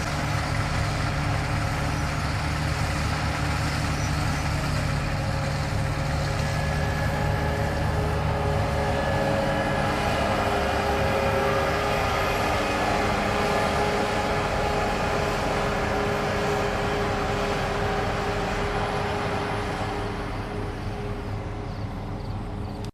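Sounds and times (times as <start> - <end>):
combine harvester mechanical drone: 0.0 - 22.9
deep engine rumble: 0.0 - 22.9.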